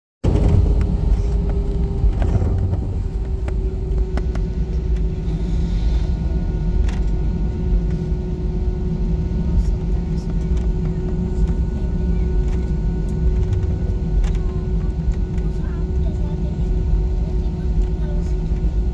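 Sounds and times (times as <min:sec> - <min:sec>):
aircraft cabin engine rumble: 0:00.2 - 0:18.9.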